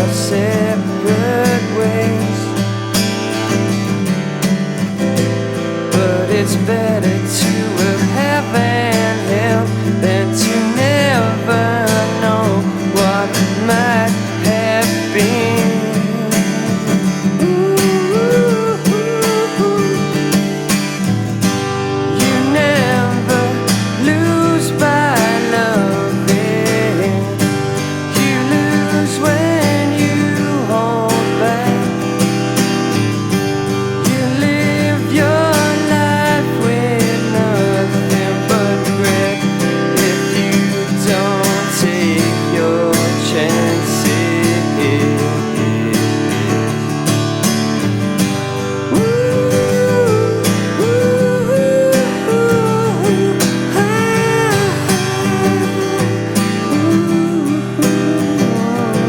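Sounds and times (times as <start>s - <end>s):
acoustic indie rock song: 0.0s - 59.0s.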